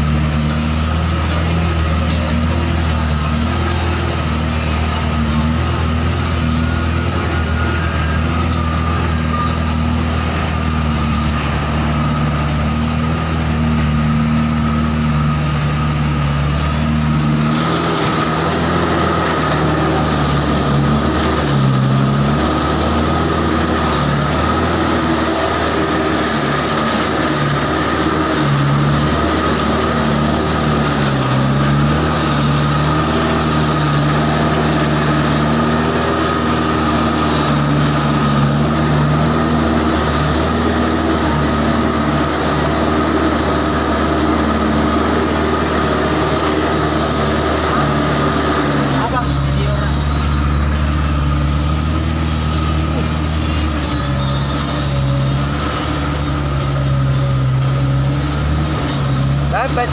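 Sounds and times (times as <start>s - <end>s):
vehicle engine under load: 0.0s - 59.9s.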